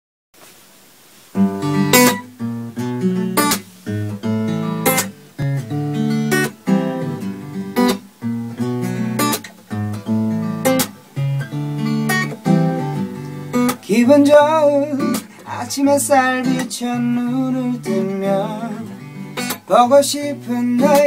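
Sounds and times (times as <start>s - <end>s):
acoustic guitar strumming chords: 1.3s - 21.0s.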